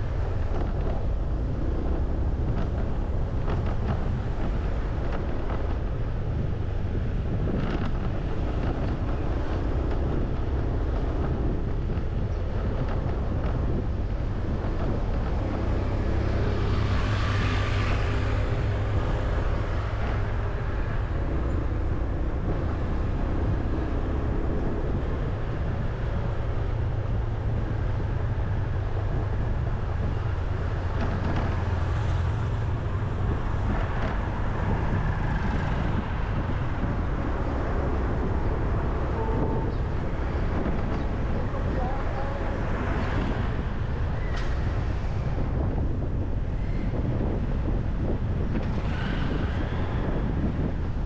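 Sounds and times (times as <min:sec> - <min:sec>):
road traffic rumble: 0:00.0 - 0:51.0
vehicles passing close: 0:00.0 - 0:51.0.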